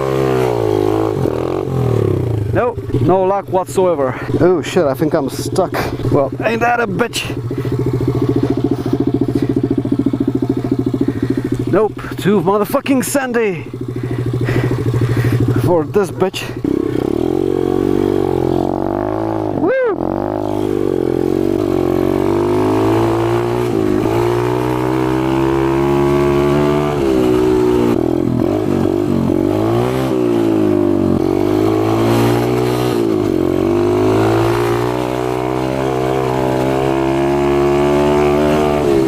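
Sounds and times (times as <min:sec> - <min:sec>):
motorbike engine revving: 0:00.0 - 0:39.0.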